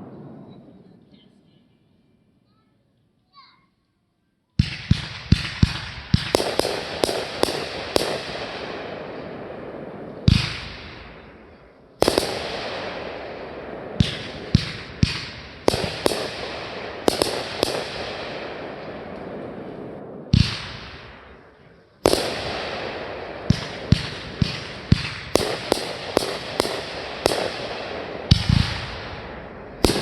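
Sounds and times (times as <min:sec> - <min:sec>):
fireworks bangs: 0:00.0 - 0:02.1, 0:04.6 - 0:30.0
fireworks crackling and hissing: 0:04.6 - 0:30.0.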